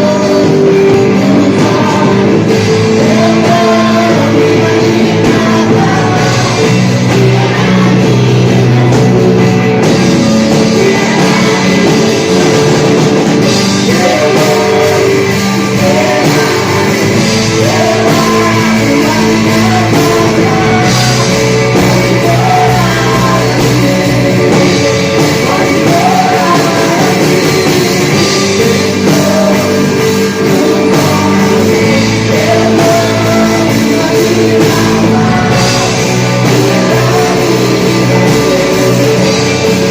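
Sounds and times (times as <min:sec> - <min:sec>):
rock worship music with drums: 0:00.0 - 0:39.9.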